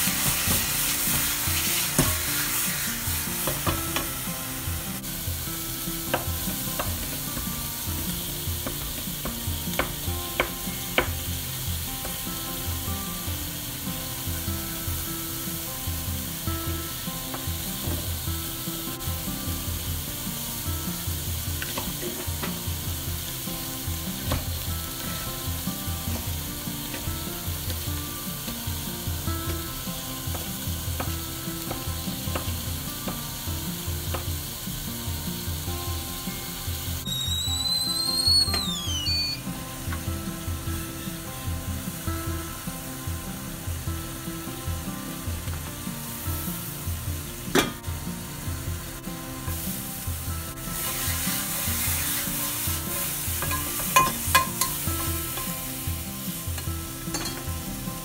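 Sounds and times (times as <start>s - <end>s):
meat sizzling in a frying pan: 0.0s - 58.0s.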